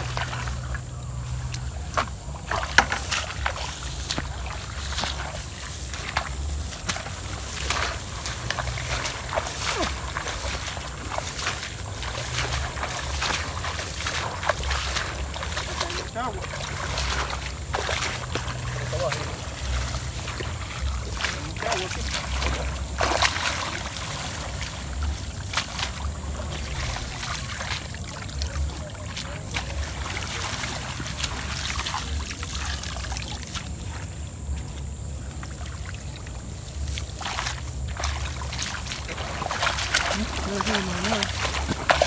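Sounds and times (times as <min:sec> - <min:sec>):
rustling through wet grass: 0:00.0 - 0:42.0.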